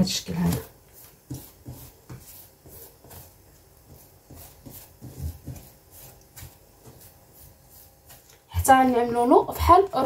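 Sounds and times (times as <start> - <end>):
hands rolling dough: 0.0 - 10.0.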